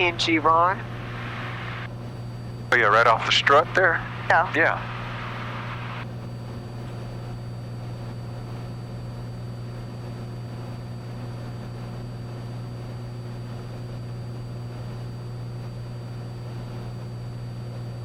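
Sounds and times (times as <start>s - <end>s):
airplane engine and propeller drone: 0.0s - 18.0s.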